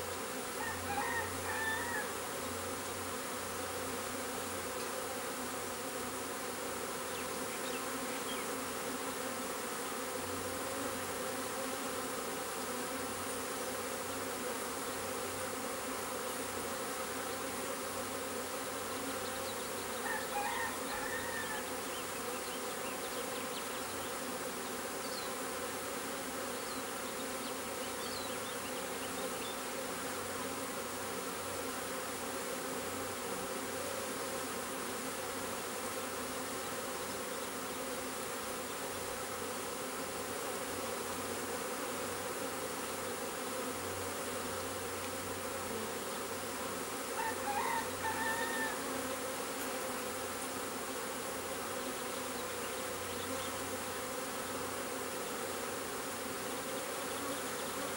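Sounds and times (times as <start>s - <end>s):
bee swarm buzzing: 0.0s - 57.9s.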